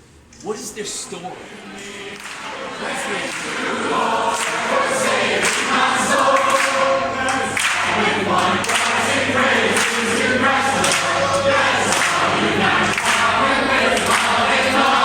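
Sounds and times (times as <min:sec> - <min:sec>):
choir singing: 0:01.3 - 0:15.0.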